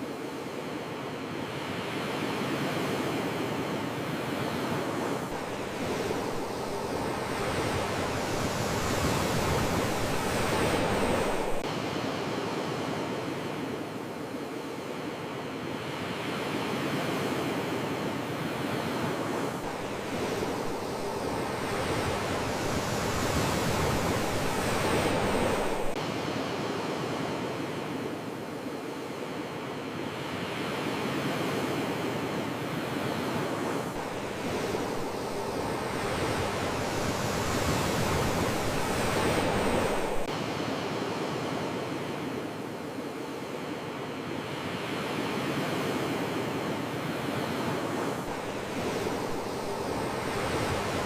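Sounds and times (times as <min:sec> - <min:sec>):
ocean surf washing onto shore: 0:00.1 - 0:51.0.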